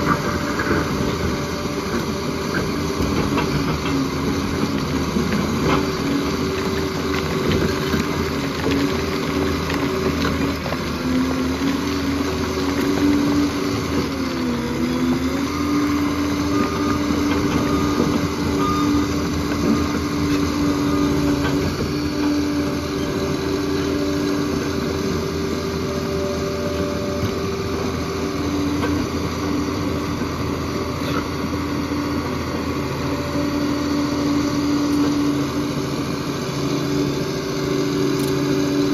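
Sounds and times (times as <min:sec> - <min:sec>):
dozer diesel engine running: 0:00.0 - 0:38.9.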